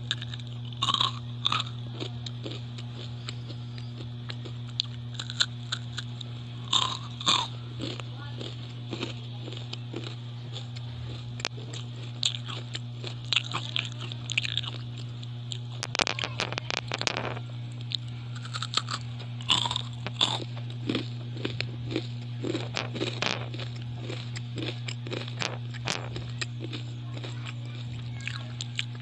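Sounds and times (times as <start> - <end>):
crisp rice cake crunching: 0.0 - 29.0
steady low hum: 0.0 - 29.0.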